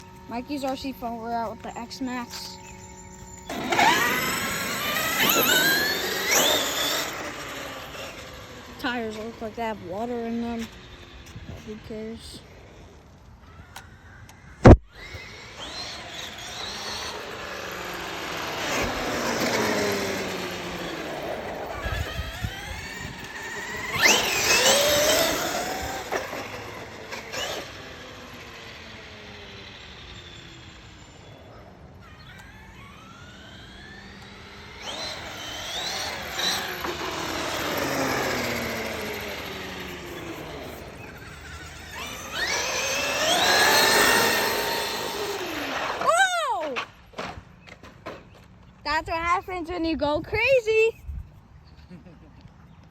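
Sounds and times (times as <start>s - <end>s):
electric motor whining: 0.0s - 47.6s
tyre and ground noise: 0.0s - 52.9s.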